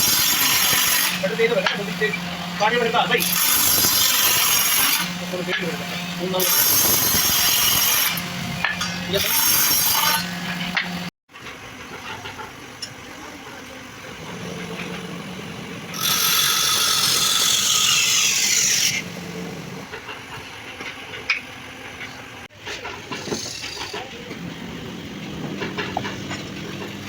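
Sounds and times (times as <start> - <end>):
motor humming: 0.0 - 27.0
power tool cutting wood: 0.0 - 27.0.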